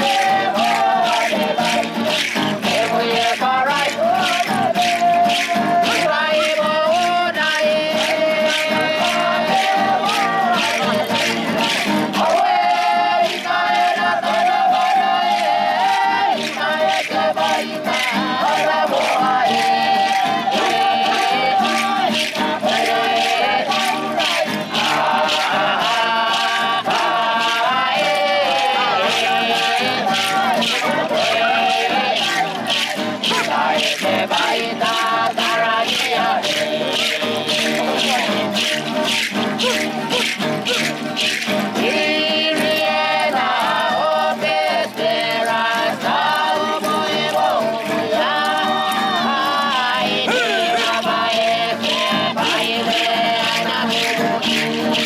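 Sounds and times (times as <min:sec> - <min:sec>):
rhythmic musical accompaniment: 0:00.0 - 0:55.0
several voices singing: 0:00.0 - 0:55.0.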